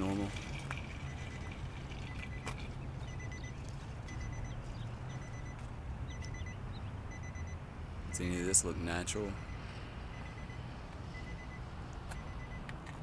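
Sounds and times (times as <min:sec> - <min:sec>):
quick high beeps: 0:01.0 - 0:08.2, 0:09.4 - 0:12.6.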